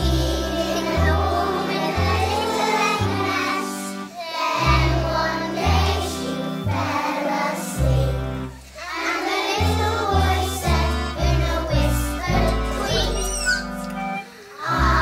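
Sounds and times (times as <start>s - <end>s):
children's choir singing: 0.0s - 15.0s
instrumental backing: 0.0s - 15.0s.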